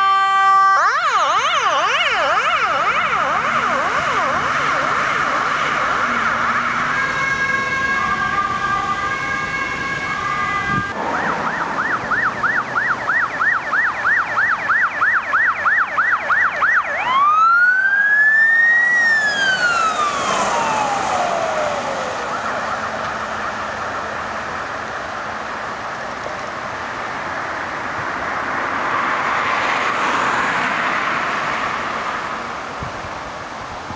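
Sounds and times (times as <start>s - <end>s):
ambulance siren: 0.0s - 33.0s
road traffic noise: 0.0s - 33.9s.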